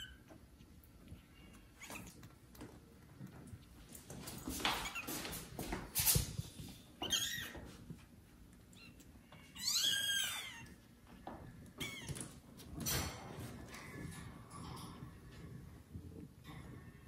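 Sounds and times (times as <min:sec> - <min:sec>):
kittens rustling on bedding: 0:00.3 - 0:16.5.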